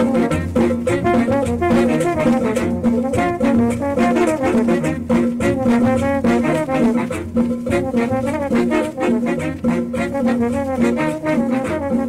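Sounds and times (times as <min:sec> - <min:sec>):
brass section melody: 0:00.0 - 0:12.0
cumbia music: 0:00.0 - 0:12.0
percussion beat: 0:00.0 - 0:12.0.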